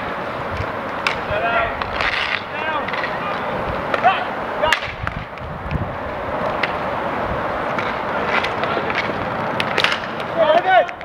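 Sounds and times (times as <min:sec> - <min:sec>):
hockey sticks and puck clacking: 0:00.0 - 0:07.0, 0:07.6 - 0:11.0
skate wheels rolling and scraping: 0:00.0 - 0:11.0.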